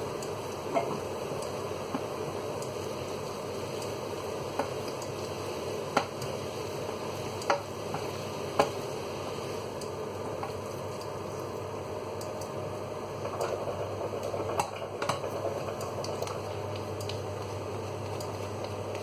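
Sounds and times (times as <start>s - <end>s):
spaghetti stirred in saucepan: 0.0s - 19.0s
steady sizzle: 0.0s - 19.0s.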